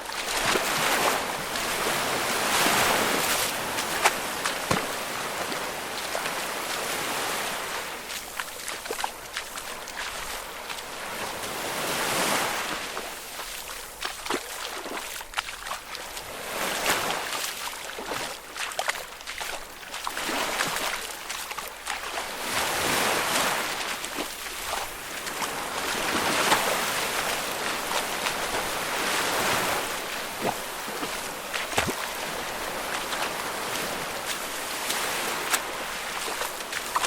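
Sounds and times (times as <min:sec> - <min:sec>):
footsteps wading through shallow water: 0:00.0 - 0:37.0.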